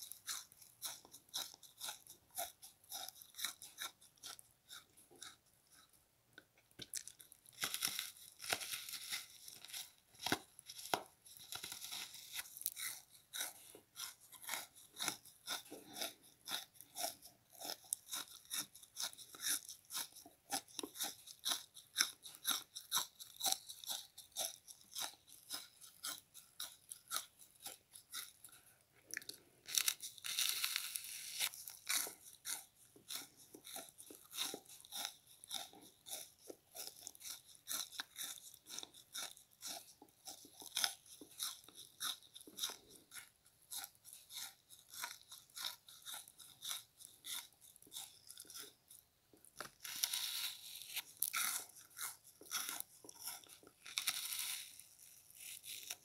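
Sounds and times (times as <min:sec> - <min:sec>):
icy crunches of chewing: 0:00.0 - 0:05.9, 0:06.8 - 0:56.0.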